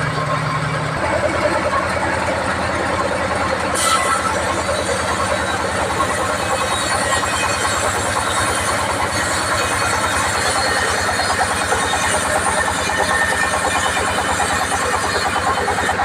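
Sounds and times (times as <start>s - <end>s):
band saw machinery running: 0.0s - 16.0s.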